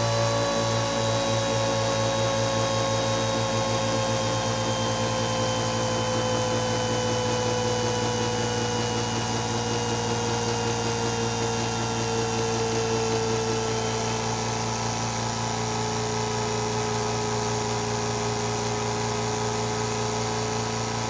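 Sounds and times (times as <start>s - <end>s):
air compressor running: 0.0s - 21.0s
air sander running: 0.0s - 21.0s.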